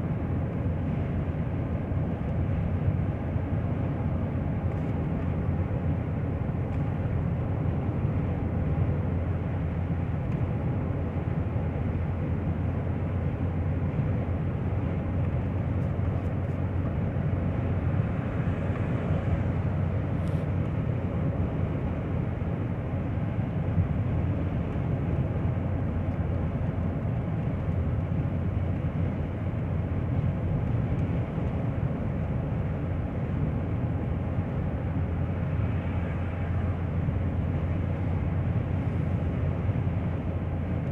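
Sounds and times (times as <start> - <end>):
car engine: 0.0 - 40.9
road noise: 0.0 - 40.9.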